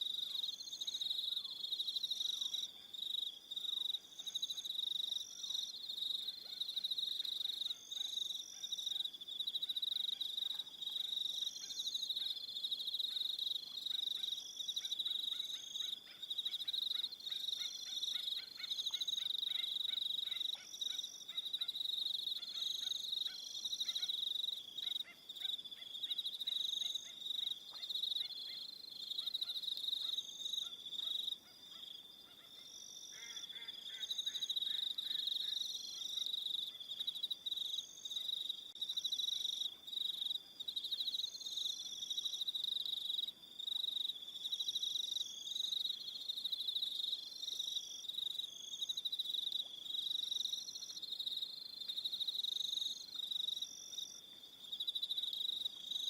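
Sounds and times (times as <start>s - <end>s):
high-pitched cricket chirping: 0.0s - 56.0s
low rapid pulsing insect call: 0.0s - 56.0s.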